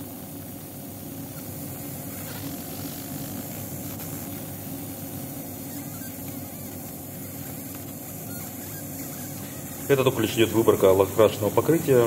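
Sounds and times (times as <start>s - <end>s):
computer cooling fan: 0.0s - 12.0s
extractor fan hum: 0.0s - 12.0s
laser engraving: 0.0s - 12.0s.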